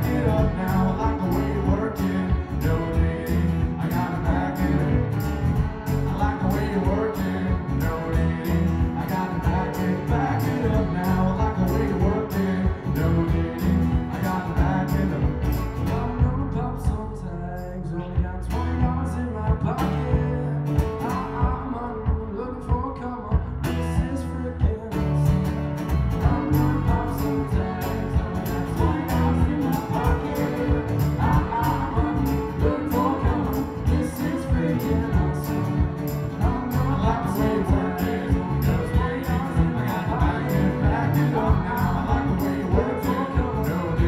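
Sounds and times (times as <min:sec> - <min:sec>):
live band music: 0:00.0 - 0:17.0, 0:23.6 - 0:44.0
acoustic guitars: 0:00.0 - 0:44.0
electric bass: 0:00.0 - 0:44.0.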